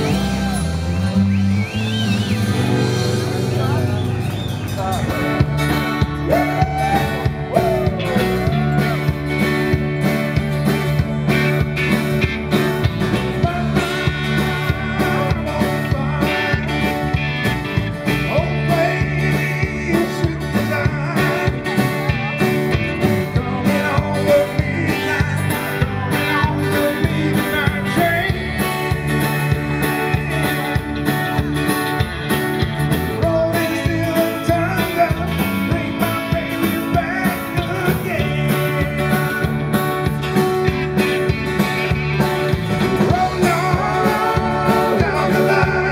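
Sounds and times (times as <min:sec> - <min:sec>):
electric guitars: 0:00.0 - 0:45.9
drum beat: 0:02.5 - 0:45.9.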